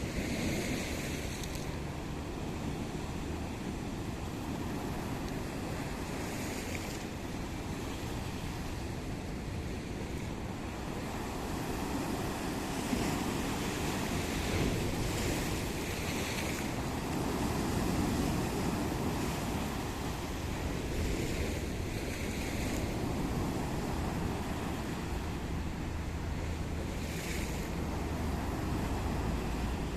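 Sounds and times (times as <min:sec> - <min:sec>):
sea waves washing onto shore: 0:00.0 - 0:29.9.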